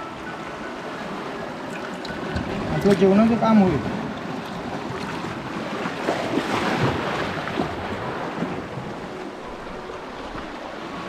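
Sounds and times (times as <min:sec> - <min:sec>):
waves washing among rocks: 0:01.6 - 0:11.0.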